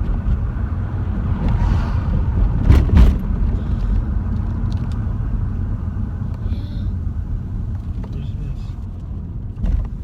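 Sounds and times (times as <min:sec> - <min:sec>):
car road rumble inside cabin: 0:00.0 - 0:10.0.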